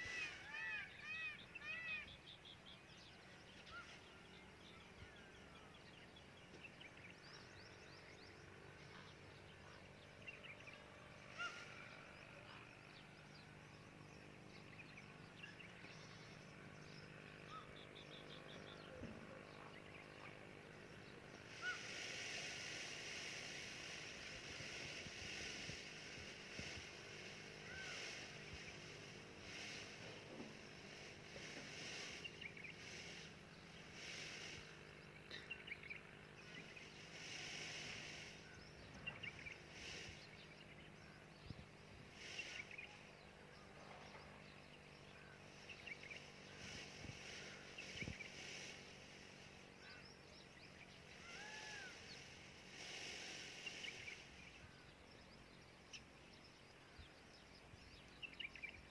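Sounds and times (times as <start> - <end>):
bird chirps and calls: 0.0 - 58.9
steady hiss: 0.0 - 58.9.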